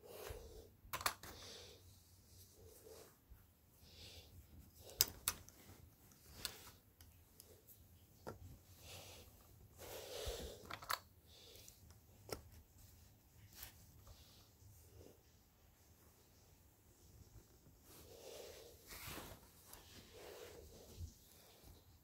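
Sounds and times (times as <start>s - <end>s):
soft rustle: 0.0s - 22.0s.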